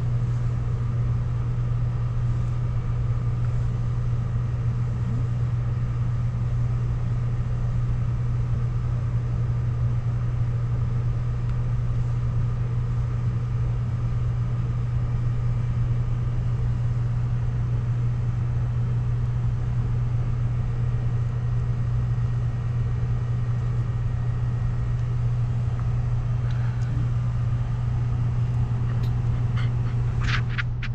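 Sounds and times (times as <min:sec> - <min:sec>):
low machine hum: 0:00.0 - 0:30.9.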